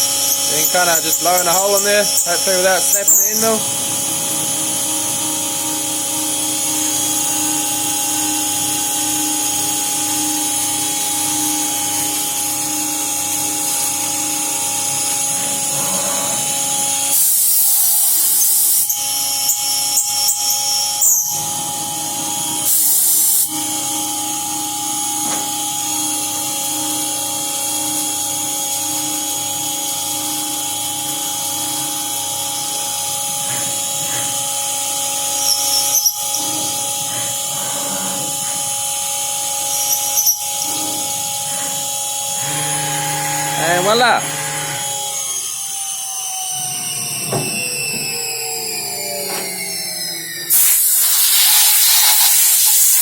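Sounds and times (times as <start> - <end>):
mill spindle whine: 0.0 - 52.8
end mill cutting metal: 0.0 - 53.0.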